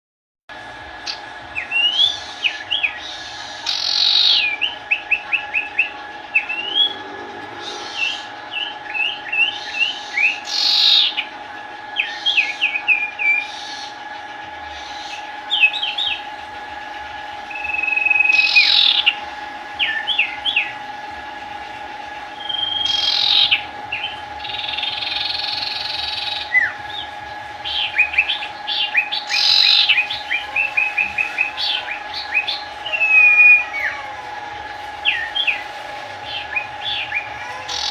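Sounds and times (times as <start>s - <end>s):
steady hum: 0.5s - 37.9s
songbird chirping and whistling: 1.0s - 11.3s, 12.0s - 14.0s, 14.8s - 16.3s, 17.5s - 19.2s, 19.8s - 20.8s, 22.4s - 34.2s, 35.0s - 37.9s.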